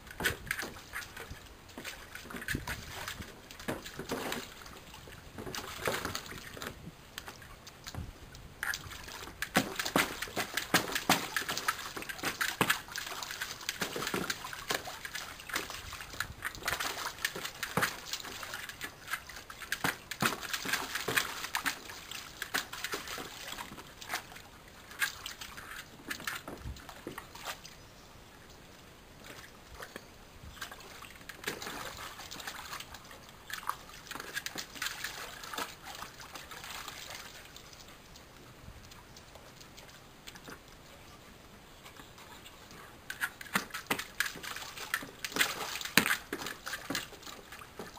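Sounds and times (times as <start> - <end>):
water splashing in paddling pool: 0.0 - 27.8, 29.0 - 47.9.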